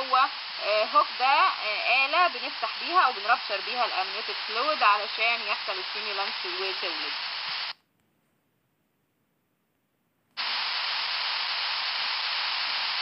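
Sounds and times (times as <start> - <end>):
recording background hiss: 0.0 - 13.0.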